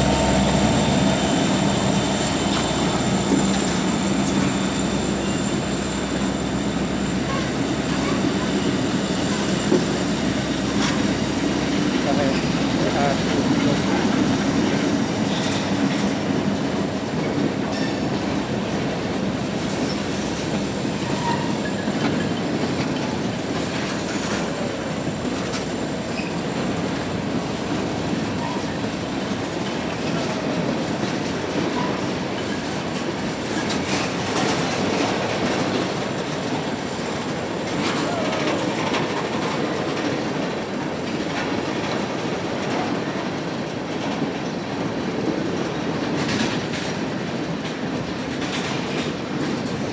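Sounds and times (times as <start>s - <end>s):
steel wheels rumbling on rail: 0.0s - 49.9s.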